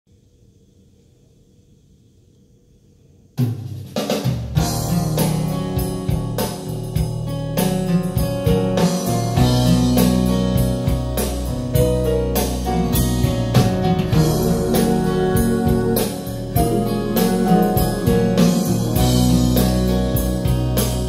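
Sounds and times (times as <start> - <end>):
music with guitar and drums: 3.4 - 21.0.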